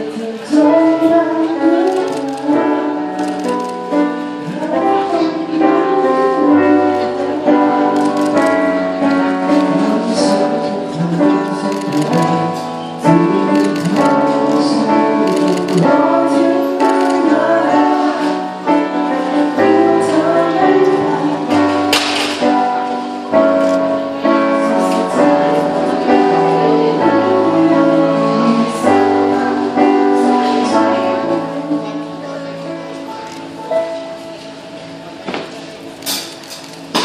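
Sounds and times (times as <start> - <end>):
man singing: 0.0 - 3.7, 4.4 - 22.6, 24.2 - 32.3.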